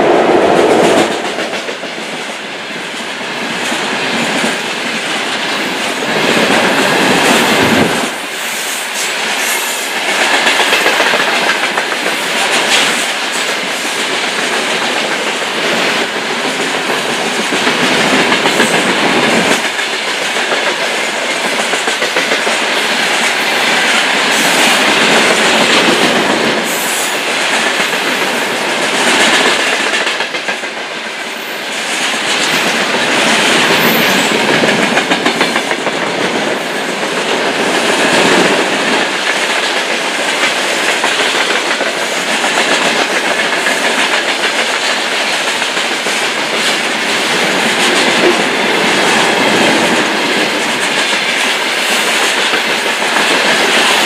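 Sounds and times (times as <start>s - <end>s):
train wheels rolling on rails: 0.0s - 54.0s
wheels clacking over rail joints: 10.0s - 31.0s, 31.7s - 54.0s.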